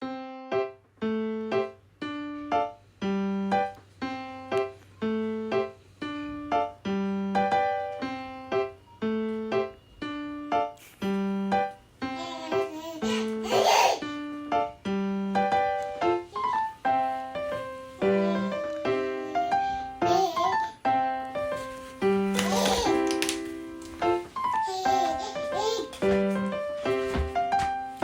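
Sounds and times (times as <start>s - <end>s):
piano melody of short notes: 0.0s - 28.0s.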